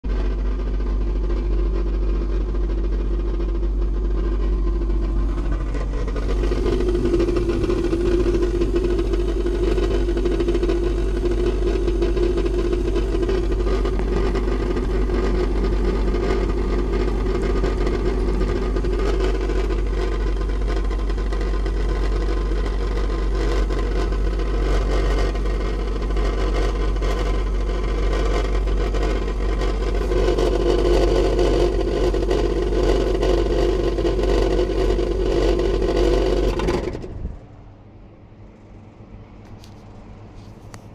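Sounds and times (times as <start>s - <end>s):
refrigeration compressor humming: 0.0s - 40.9s.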